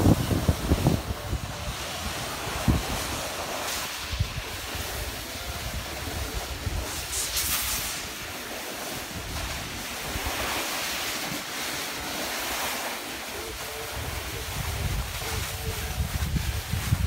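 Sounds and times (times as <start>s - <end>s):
wind rushing over microphone: 0.0s - 8.4s, 9.0s - 11.0s, 13.3s - 17.0s
edges scraping over packed snow: 0.2s - 17.0s.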